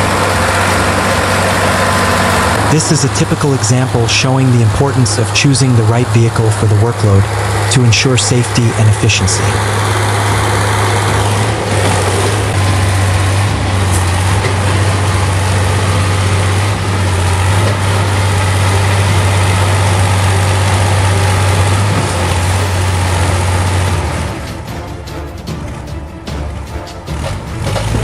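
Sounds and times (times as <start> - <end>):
heavy vehicle engine humming: 0.0 - 28.0.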